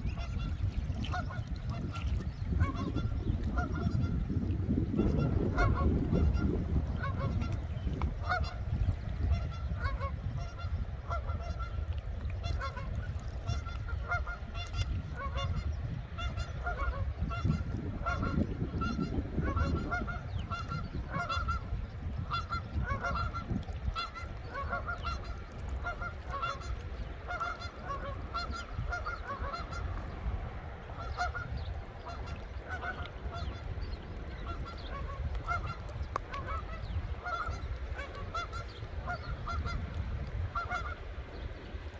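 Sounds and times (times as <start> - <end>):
geese honking: 0.0 - 4.2, 4.9 - 11.8, 12.4 - 29.9, 30.9 - 33.7, 34.3 - 39.9, 40.5 - 41.0.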